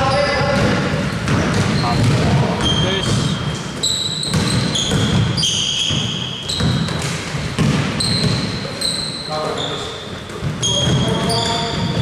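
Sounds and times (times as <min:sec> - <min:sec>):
basketball dribbling: 0:00.0 - 0:12.0
shoes squeaking on court floor: 0:00.0 - 0:12.0.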